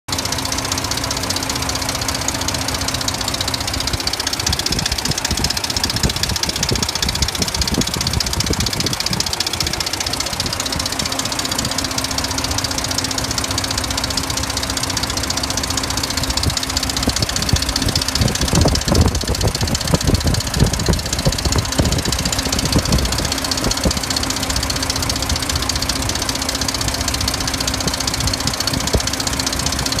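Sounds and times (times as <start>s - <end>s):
pickup engine idling with ticking: 0.1s - 30.0s.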